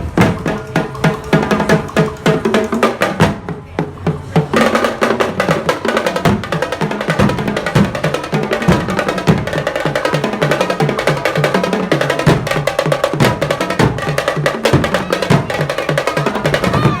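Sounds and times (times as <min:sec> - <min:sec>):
drums playing fast rhythm: 0:00.0 - 0:17.0.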